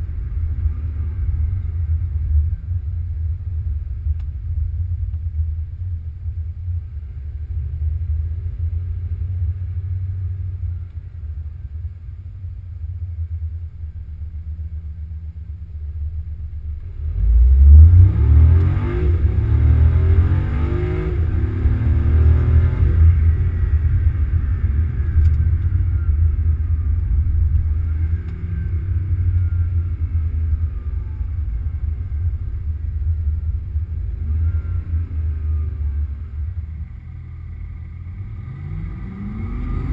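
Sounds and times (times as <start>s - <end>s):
car engine running and accelerating: 0.0s - 39.9s.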